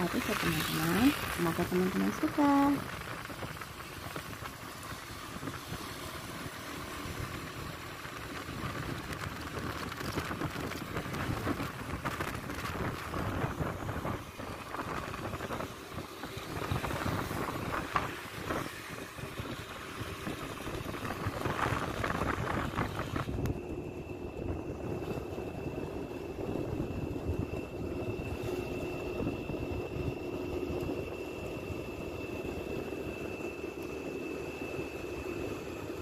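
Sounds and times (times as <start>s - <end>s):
road and traffic noise: 0.0s - 36.0s
wind on microphone: 0.0s - 36.0s.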